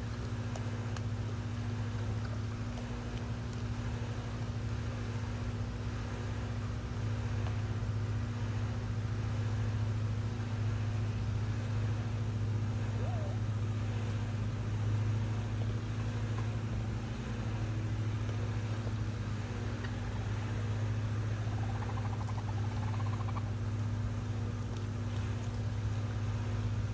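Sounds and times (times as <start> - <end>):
low mechanical motor hum: 0.0 - 26.9.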